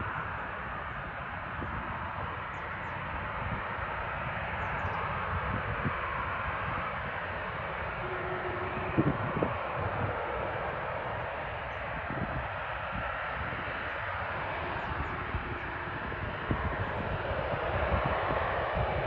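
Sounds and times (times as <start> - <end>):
jet engines hissing: 0.0 - 19.0.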